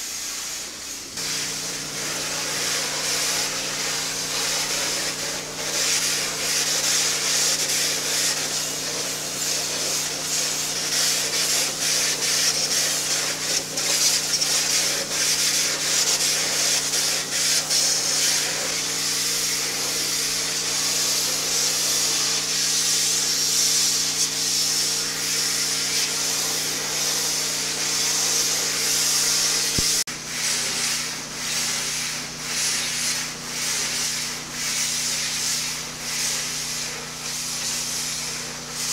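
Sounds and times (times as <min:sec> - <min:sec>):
pressure washer machine hum: 0:00.0 - 0:38.9
water jet hissing on surface: 0:00.0 - 0:38.9.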